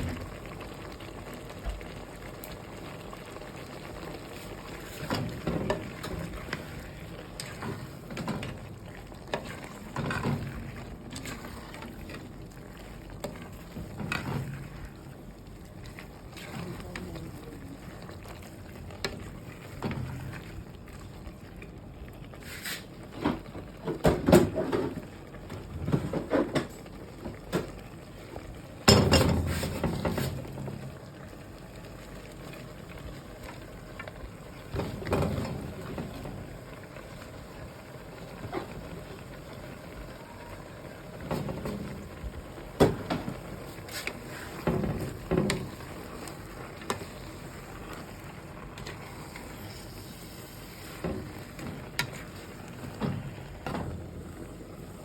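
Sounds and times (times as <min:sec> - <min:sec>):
utensil stirring in a pot: 0:00.0 - 0:23.6, 0:28.8 - 0:55.0.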